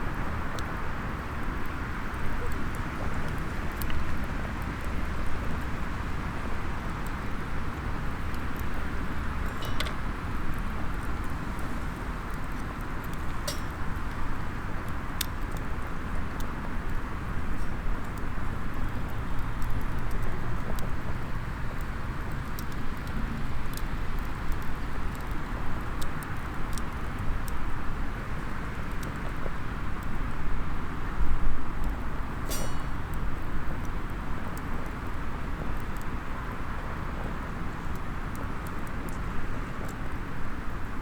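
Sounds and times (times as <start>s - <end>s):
outdoor background noise: 0.0s - 41.0s
wood fire crackling and popping: 0.0s - 41.0s.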